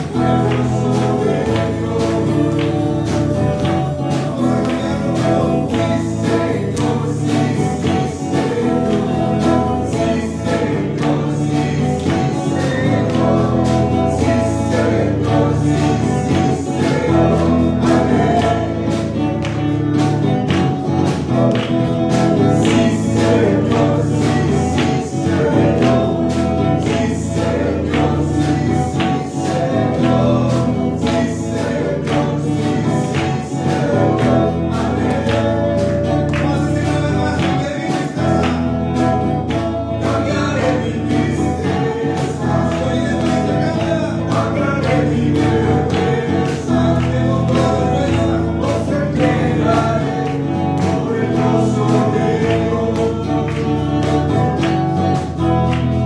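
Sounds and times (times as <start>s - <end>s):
man singing into microphone: 0.0s - 19.4s, 22.3s - 38.7s, 39.9s - 54.2s
backing voices: 0.0s - 54.4s
instrumental accompaniment with beat: 0.0s - 56.0s.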